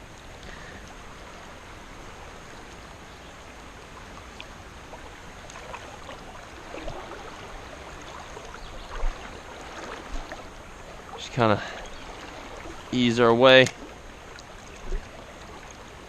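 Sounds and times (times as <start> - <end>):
creek water running: 0.0 - 16.0.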